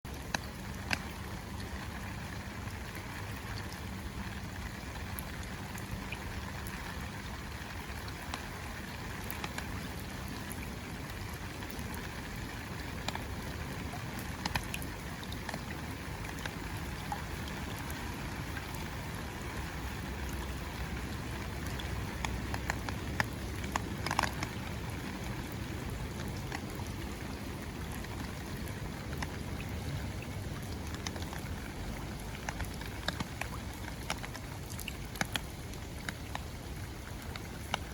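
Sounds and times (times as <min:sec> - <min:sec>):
rain falling: 0:00.1 - 0:37.9
raindrops ticking on an umbrella: 0:00.1 - 0:37.9.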